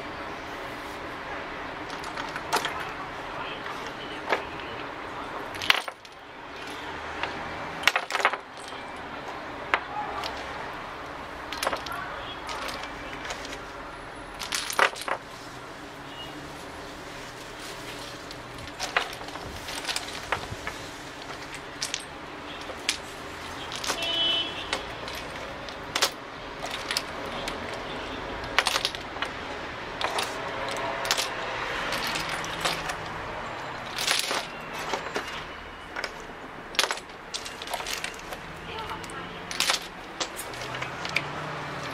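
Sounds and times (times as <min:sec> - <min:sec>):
plastic tokens clicking together: 0:01.8 - 0:03.0, 0:03.6 - 0:13.7, 0:14.4 - 0:15.3, 0:18.0 - 0:41.9.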